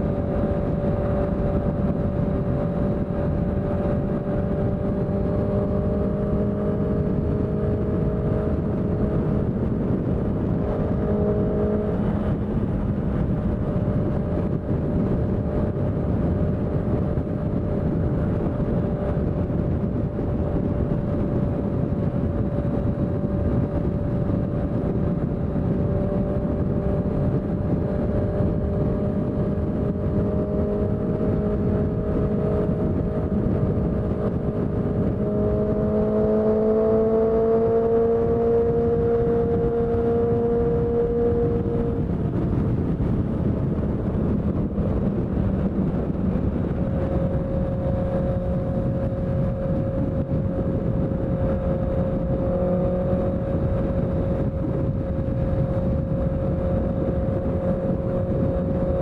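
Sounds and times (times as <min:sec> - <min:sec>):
motorcycle engine running: 0:00.0 - 0:59.0
dense rushing noise: 0:06.0 - 0:59.0.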